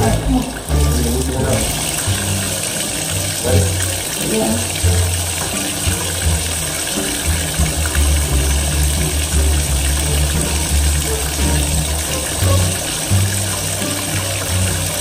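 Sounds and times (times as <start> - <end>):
water running from faucet: 0.0 - 15.0.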